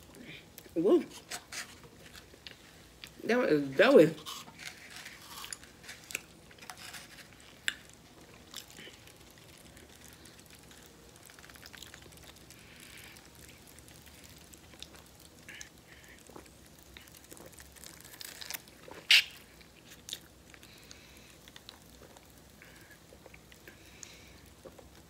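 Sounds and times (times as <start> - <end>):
person chewing and smacking: 4.2 - 25.0.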